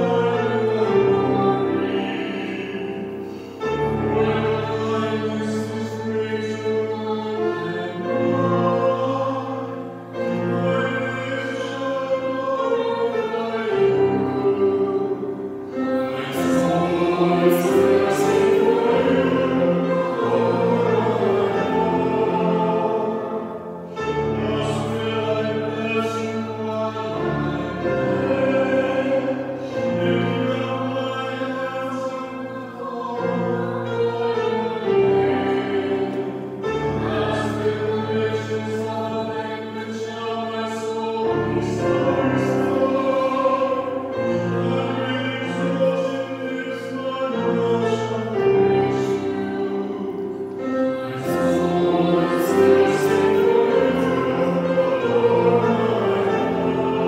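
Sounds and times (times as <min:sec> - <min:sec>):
person singing: 0:00.0 - 0:36.2, 0:37.1 - 0:57.0
instrumental accompaniment: 0:00.0 - 0:40.0, 0:40.9 - 0:57.0.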